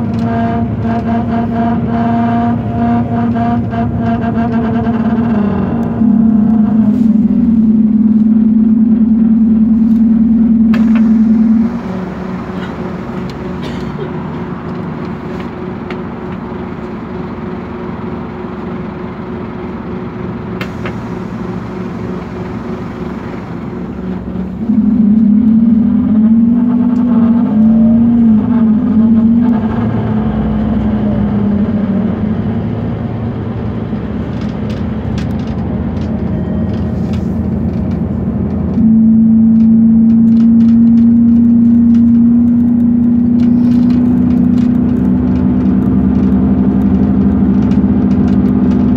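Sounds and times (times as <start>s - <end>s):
loud low wavering drone: 0.0s - 19.4s, 20.7s - 35.2s, 36.0s - 48.9s
bus engine running: 0.0s - 48.9s.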